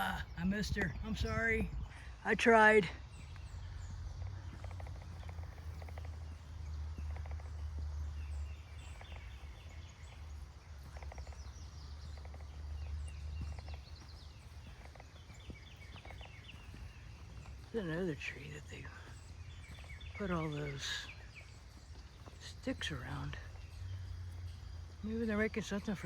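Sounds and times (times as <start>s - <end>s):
small birds chirping: 0.0s - 26.0s
steady low rumble: 0.0s - 26.0s
footstep crunches: 3.1s - 26.0s.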